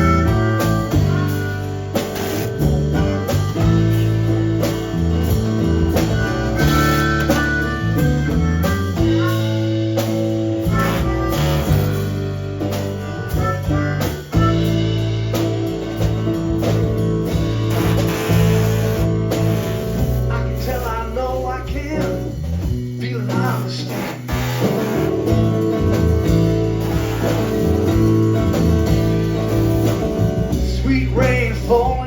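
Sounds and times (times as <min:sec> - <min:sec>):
blues band playing: 0:00.0 - 0:32.0
drums: 0:00.0 - 0:32.0
guitar: 0:00.0 - 0:32.0.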